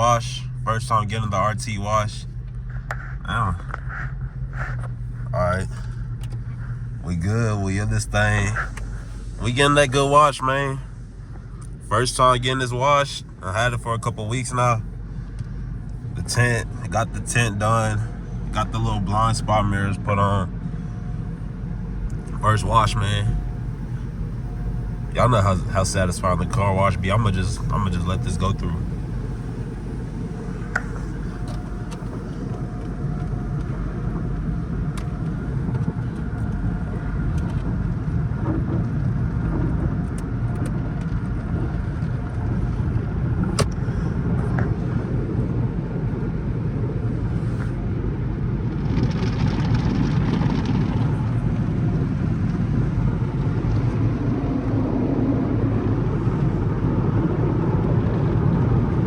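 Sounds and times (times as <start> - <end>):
car engine idling: 0.0 - 59.0
car wash machinery: 0.0 - 59.0.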